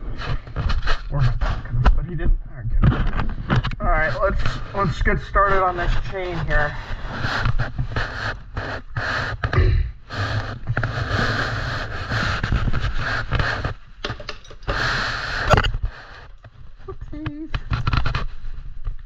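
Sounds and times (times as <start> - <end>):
packaging rustling and scraping: 0.1 - 1.8, 2.8 - 9.5, 10.1 - 16.6, 17.6 - 19.0.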